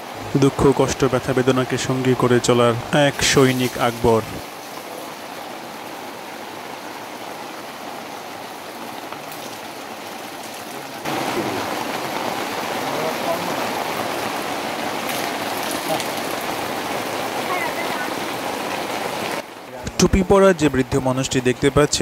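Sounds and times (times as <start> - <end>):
heavy rain on plastic roof: 0.0 - 22.0.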